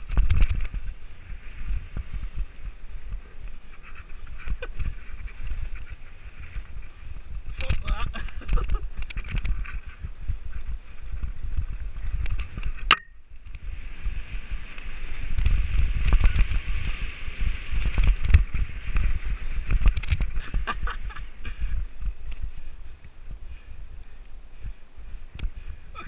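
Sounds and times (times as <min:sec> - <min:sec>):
bike tyres and frame rattling: 0:00.0 - 0:26.0.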